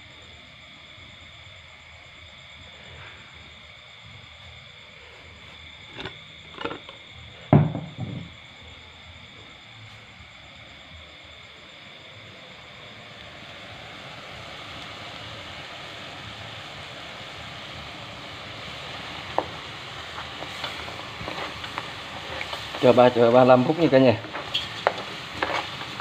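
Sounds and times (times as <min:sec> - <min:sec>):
pot simmering with steady hiss: 0:00.0 - 0:26.0.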